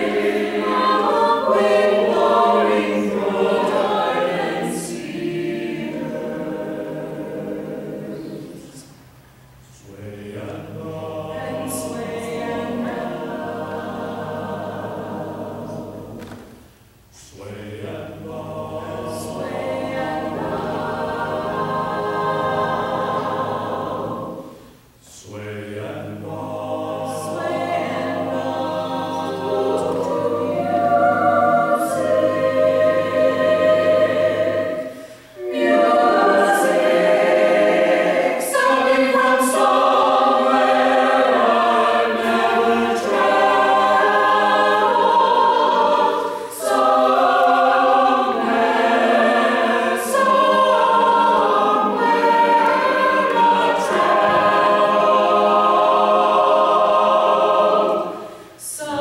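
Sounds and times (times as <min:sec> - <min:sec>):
mixed choir singing: 0:00.0 - 0:09.0, 0:09.7 - 0:16.6, 0:17.2 - 0:59.0.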